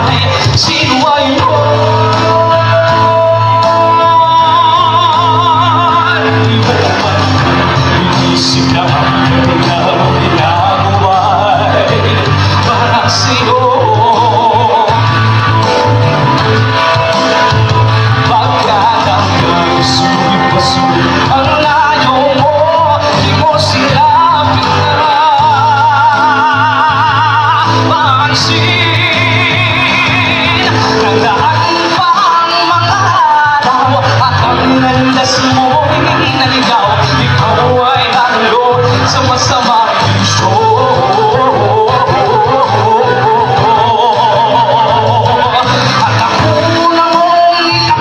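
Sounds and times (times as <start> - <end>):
backing music: 0.0 - 48.0.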